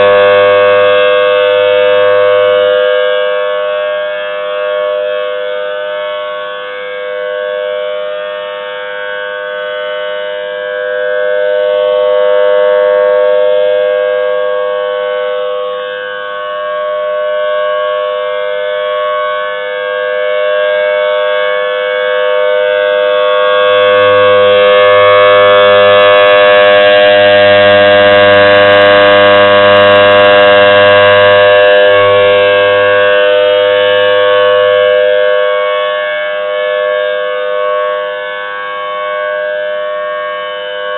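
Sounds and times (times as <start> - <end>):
tornado siren: 0.0 - 40.9.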